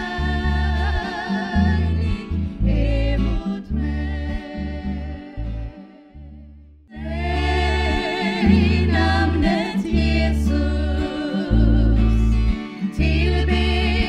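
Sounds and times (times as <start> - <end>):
strummed acoustic guitar: 0.0 - 6.1, 6.9 - 14.0
women singing in harmony: 0.0 - 6.2, 7.0 - 14.0.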